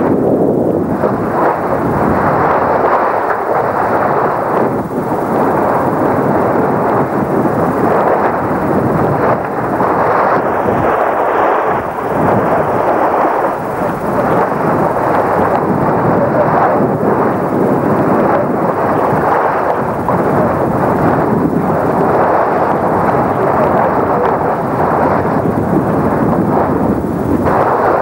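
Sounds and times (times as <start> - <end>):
wind buffeting the microphone: 0.0 - 28.0.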